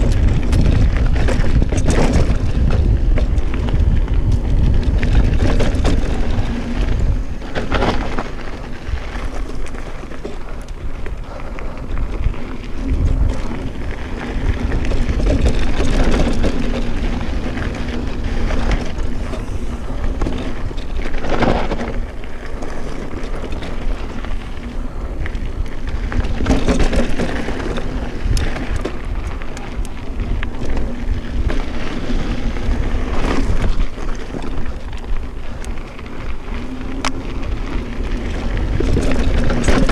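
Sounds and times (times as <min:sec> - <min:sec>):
bike and tyres rattling: 0:00.0 - 0:39.9
wind buffeting microphone: 0:00.0 - 0:39.9.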